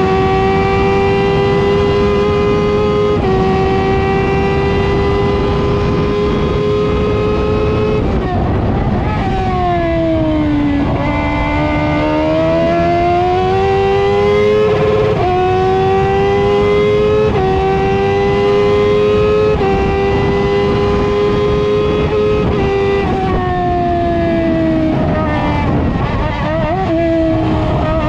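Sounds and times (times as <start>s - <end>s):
racing car engine at full throttle: 0.0s - 28.0s.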